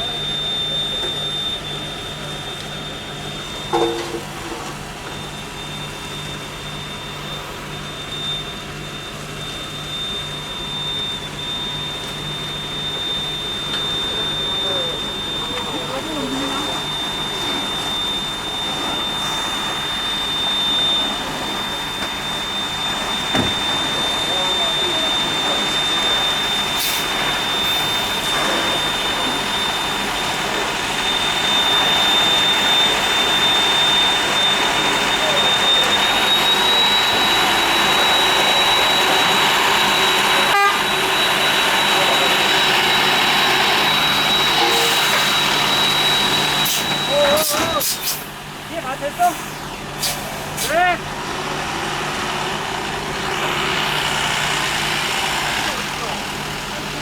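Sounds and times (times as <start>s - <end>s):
constant high mechanical whine: 0.0s - 57.0s.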